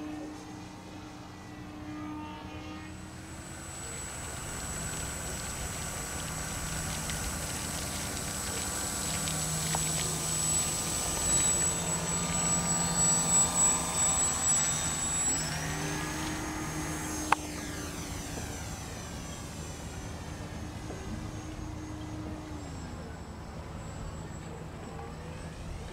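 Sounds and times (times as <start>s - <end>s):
rc plane motor whine: 0.0s - 25.9s.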